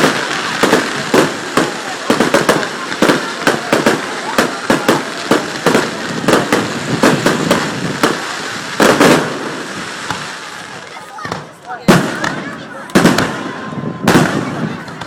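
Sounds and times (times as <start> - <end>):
crackling hiss: 0.0 - 15.0
firework shells bursting: 0.0 - 15.0.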